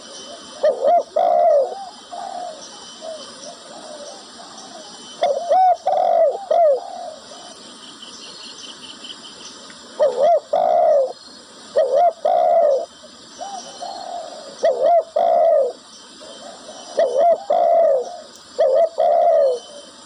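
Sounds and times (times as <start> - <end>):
dove cooing: 0.0 - 7.7, 9.9 - 20.0.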